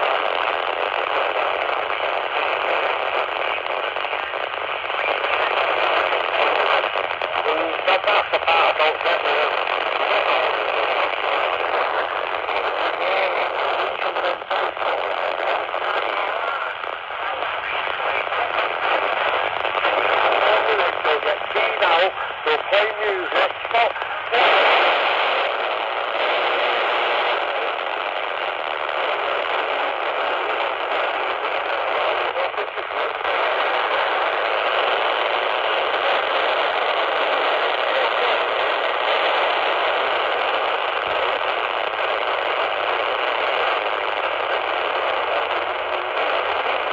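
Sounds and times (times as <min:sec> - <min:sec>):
radio static hiss: 0:00.0 - 0:46.9.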